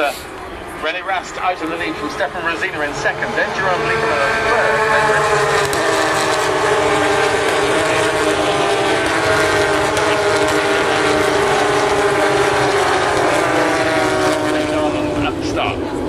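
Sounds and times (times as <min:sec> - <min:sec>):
race cars passing at speed: 0:00.0 - 0:16.0.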